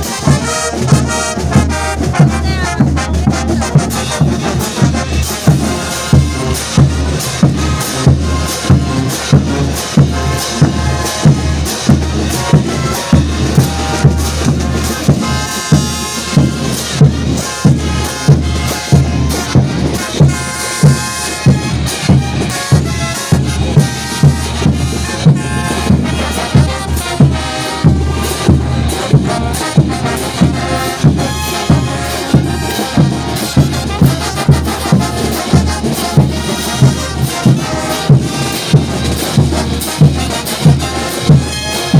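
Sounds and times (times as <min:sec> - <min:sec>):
steady drum beat: 0:00.0 - 0:41.9
trumpets and trombones: 0:00.0 - 0:41.9.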